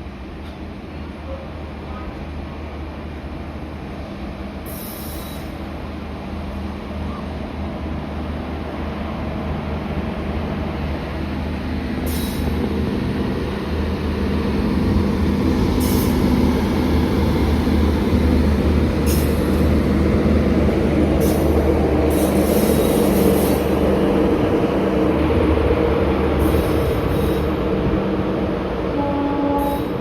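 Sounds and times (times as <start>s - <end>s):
electric train rumbling on track: 0.0s - 30.0s.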